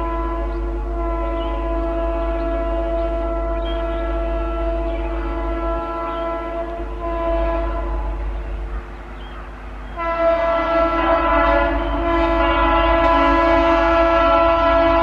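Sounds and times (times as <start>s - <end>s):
train horn: 0.0s - 15.0s.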